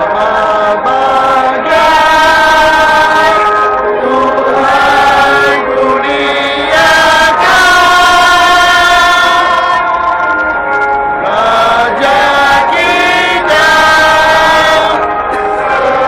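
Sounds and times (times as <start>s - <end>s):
crowd singing together: 0.0s - 16.0s.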